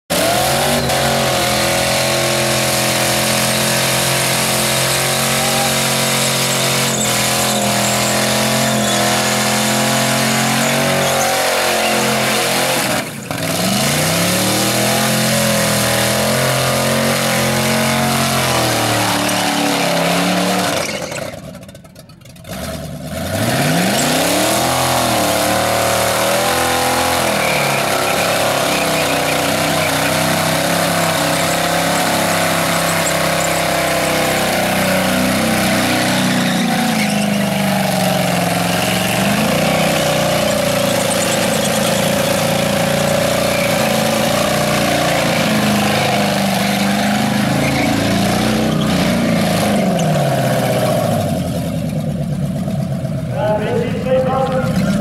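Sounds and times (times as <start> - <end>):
engine revving high: 0.1 - 20.9, 22.5 - 51.4
tyres screeching: 0.1 - 21.5, 23.5 - 51.3.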